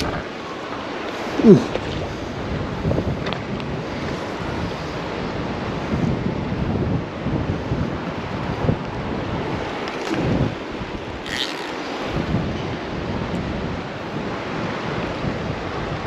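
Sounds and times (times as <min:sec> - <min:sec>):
creek water rushing: 0:00.0 - 0:16.0
wind buffeting microphone: 0:00.0 - 0:16.0.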